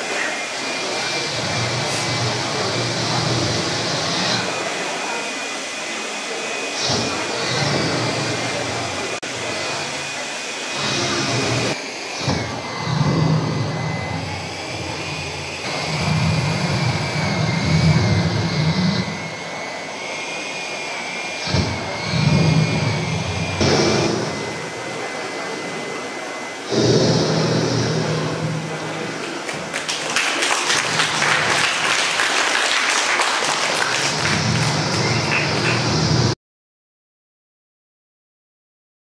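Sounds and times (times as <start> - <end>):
hair dryers blowing: 0.0 - 36.4.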